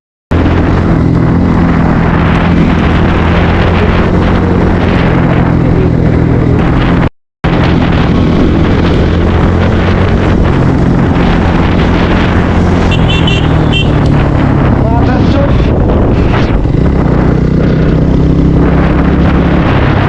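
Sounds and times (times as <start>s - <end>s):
motorcycle engine running: 0.3s - 20.0s
wind noise on microphone: 0.3s - 20.0s.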